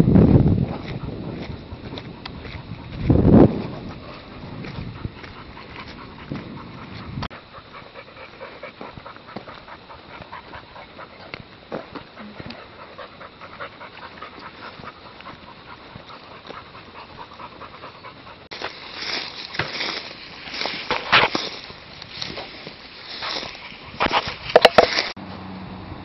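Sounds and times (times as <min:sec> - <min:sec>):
animal panting: 0:00.6 - 0:24.8.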